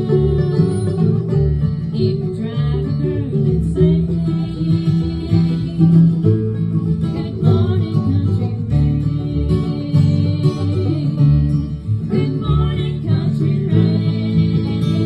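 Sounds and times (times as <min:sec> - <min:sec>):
acoustic guitar: 0:00.0 - 0:15.0
bluegrass band playing: 0:00.0 - 0:15.0
upright bass: 0:00.0 - 0:15.0.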